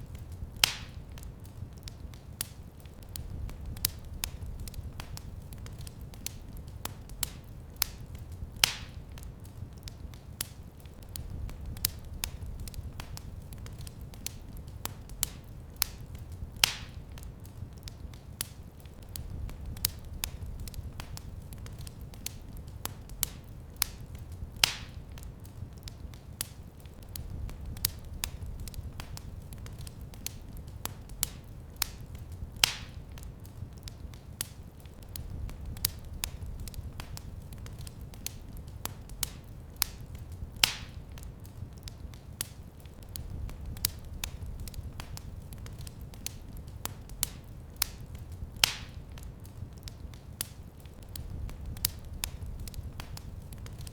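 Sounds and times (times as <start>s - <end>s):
wood fire crackling: 0.0s - 53.9s
loud fire pops: 0.1s - 53.9s.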